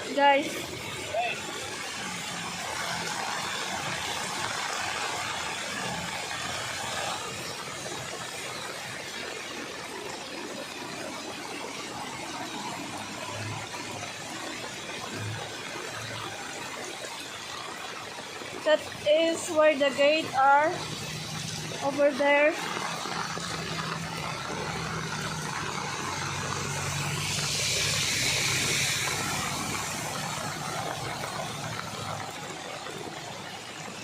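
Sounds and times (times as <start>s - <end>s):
vehicle running noise: 0.0s - 34.0s
water churned by wheels: 0.0s - 34.0s.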